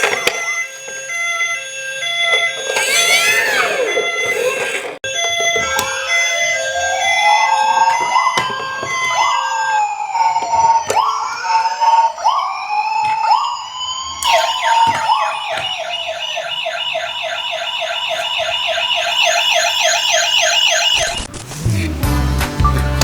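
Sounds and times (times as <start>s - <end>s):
emergency vehicle sirens: 0.0s - 21.8s.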